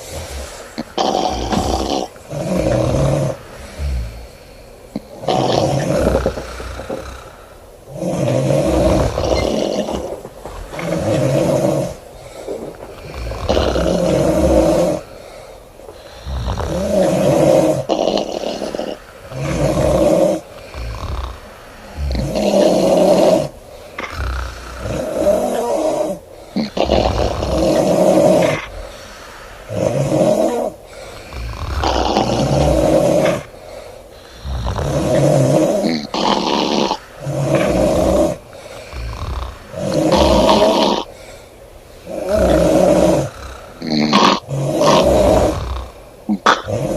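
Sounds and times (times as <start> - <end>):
woman snoring loudly: 0.0 - 4.4, 5.0 - 15.1, 16.1 - 28.9, 29.7 - 33.5, 34.4 - 41.2, 42.0 - 46.9
quiet breathing: 0.0 - 46.9.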